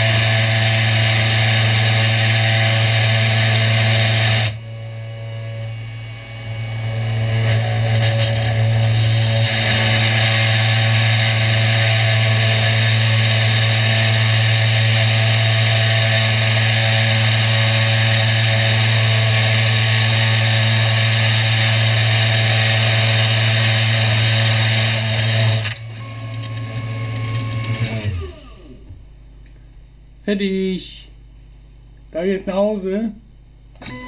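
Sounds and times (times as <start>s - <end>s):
router spindle motor hum: 0.0s - 29.1s.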